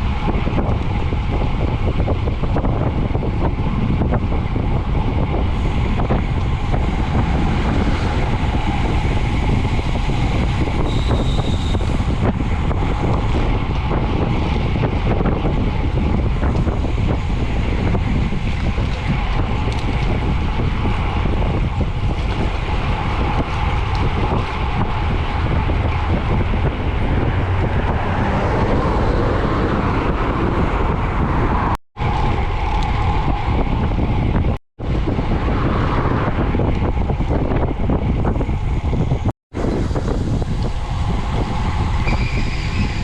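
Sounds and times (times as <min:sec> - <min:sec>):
wind roaring over microphone: 0:00.0 - 0:43.0.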